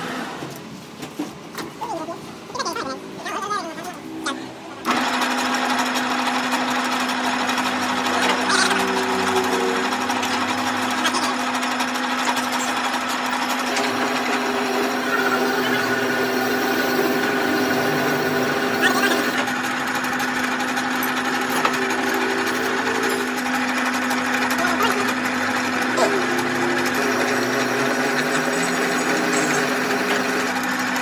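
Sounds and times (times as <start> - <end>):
metal lathe humming: 4.8 - 31.0.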